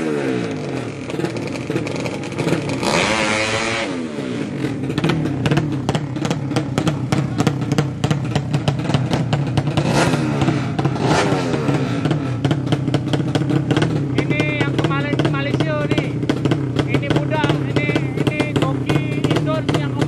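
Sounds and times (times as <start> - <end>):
exhaust crackling: 0.0 - 20.0
motorcycle engine revving and idling: 0.0 - 20.0.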